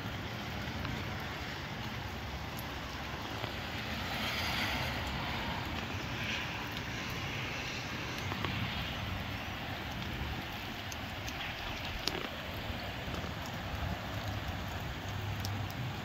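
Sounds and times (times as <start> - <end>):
gusty wind: 0.0 - 16.0
raindrop ticks: 0.0 - 16.0.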